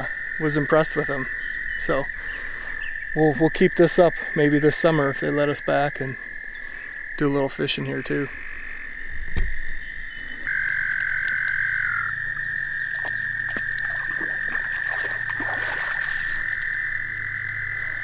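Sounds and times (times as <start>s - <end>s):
frogs trilling: 0.0s - 18.0s.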